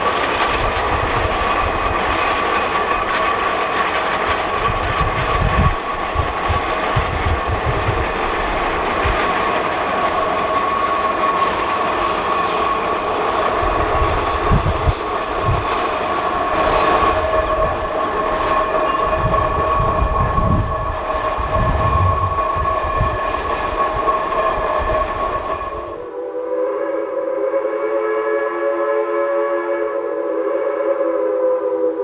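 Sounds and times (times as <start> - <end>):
steam locomotive rail rumble: 0.0 - 32.0.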